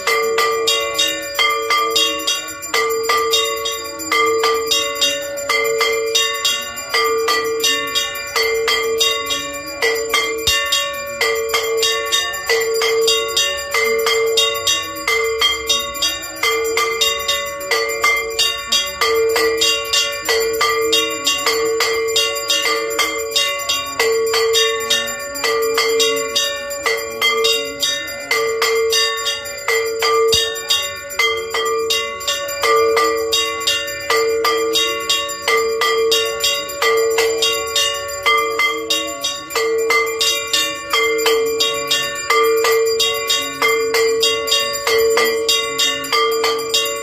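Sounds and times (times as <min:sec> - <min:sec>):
bells ringing: 0:00.0 - 0:47.0.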